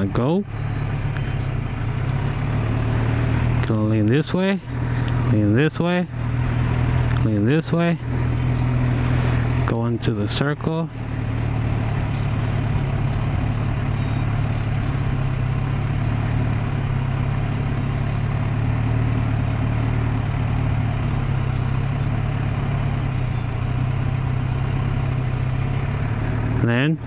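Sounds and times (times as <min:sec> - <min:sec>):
motorcycle engine running at low revs: 0:00.0 - 0:27.0.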